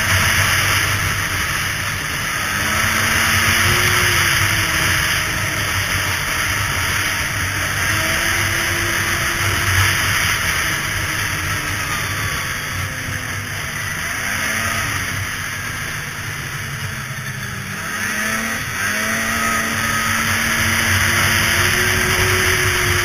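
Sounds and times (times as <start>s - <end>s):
snowmobile engine running: 0.0s - 23.0s
wind and track hiss: 0.0s - 23.0s.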